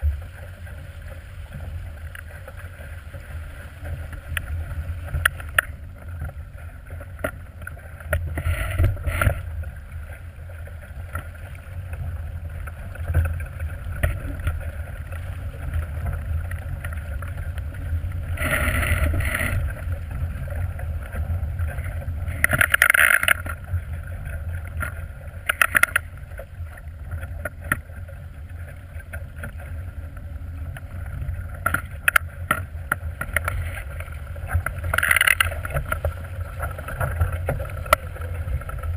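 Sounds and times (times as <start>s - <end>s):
water rushing along hull: 0.0s - 38.9s
water splashes: 0.0s - 38.9s.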